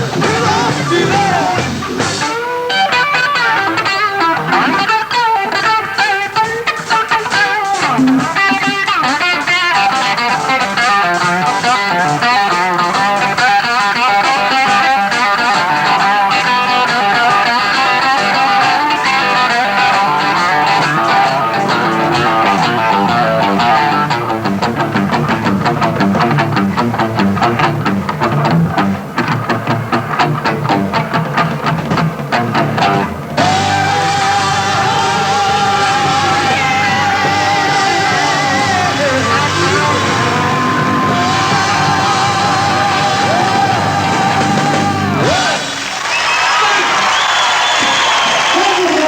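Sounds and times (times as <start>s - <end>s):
rock band instrumental: 0.0s - 49.0s.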